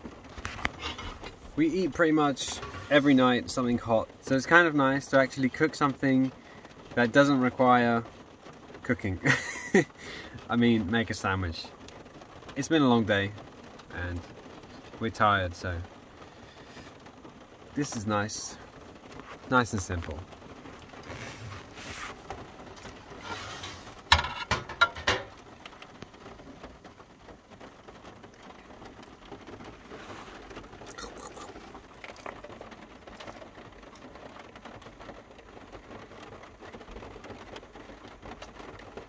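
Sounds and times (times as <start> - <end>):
rain on a van roof: 0.0 - 39.0.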